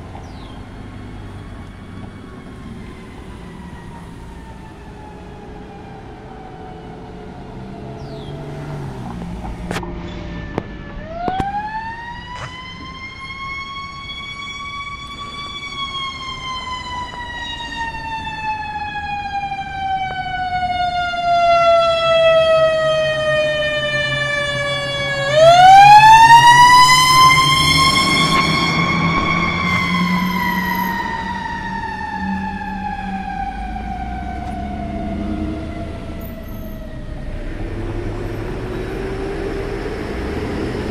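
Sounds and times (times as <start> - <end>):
fire engine siren wailing: 0.0 - 40.9.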